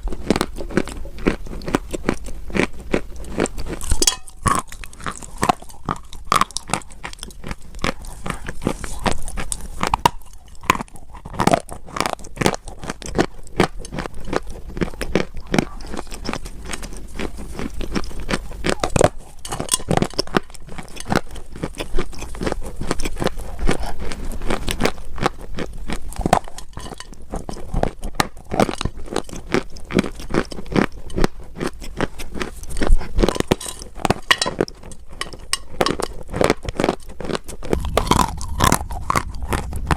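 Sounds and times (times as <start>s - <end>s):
dry clay crunching: 0.0s - 39.9s.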